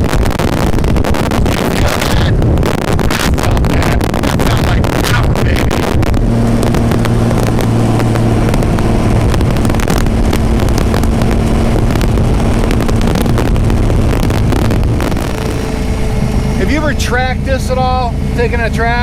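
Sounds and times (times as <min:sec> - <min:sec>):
wind noise: 0:00.0 - 0:17.4
racing engine running loud: 0:00.0 - 0:19.0.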